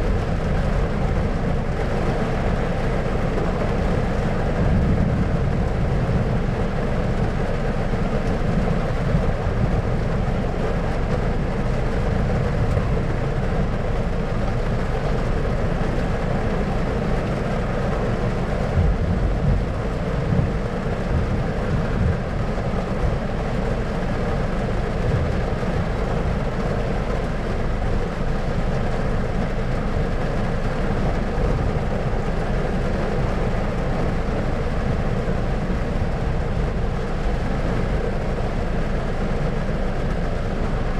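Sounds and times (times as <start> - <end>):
low steady rumbling: 0.0 - 40.9.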